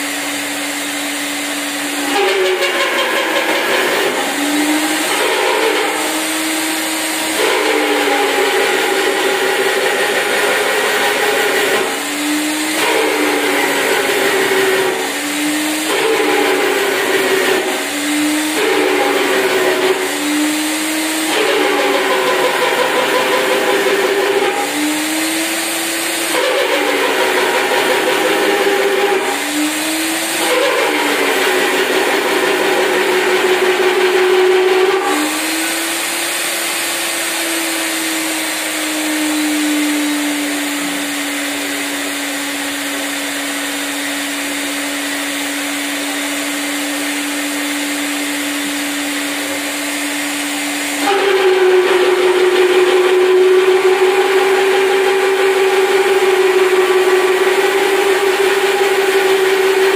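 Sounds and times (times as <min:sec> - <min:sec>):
magnetic drill cutting metal: 0:01.7 - 0:59.9.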